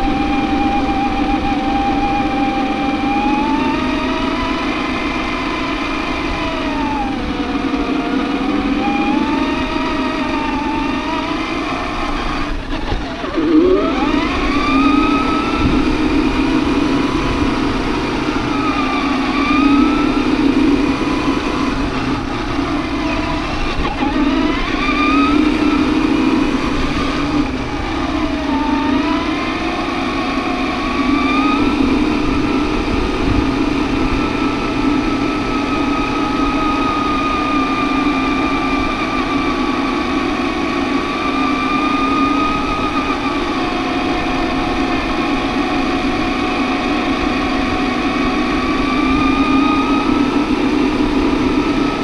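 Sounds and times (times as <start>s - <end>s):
toy truck motor whining: 0.0s - 52.0s.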